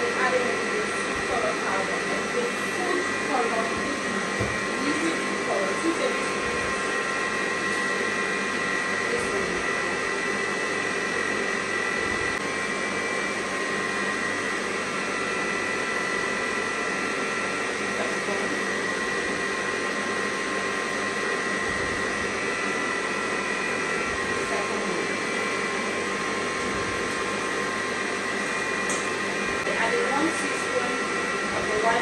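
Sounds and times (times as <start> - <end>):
electric stand mixer whining: 0.0 - 32.0.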